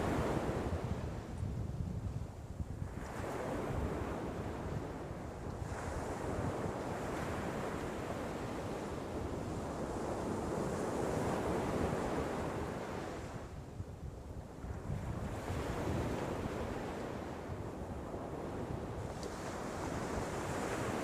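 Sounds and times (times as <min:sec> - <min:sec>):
ocean waves washing in and out: 0:00.0 - 0:01.5, 0:02.4 - 0:21.0.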